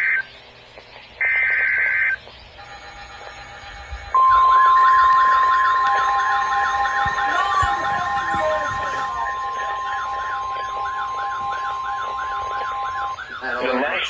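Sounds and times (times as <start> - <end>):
loud steady alert tone: 1.2 - 14.0
screeching digital data tones: 1.2 - 14.0
warbling siren-like tone: 1.5 - 14.0.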